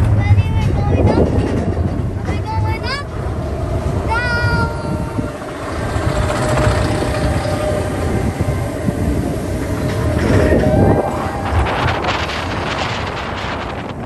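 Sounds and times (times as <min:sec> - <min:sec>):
steady hum: 0:00.0 - 0:14.0
vehicle rumbling: 0:00.0 - 0:14.0.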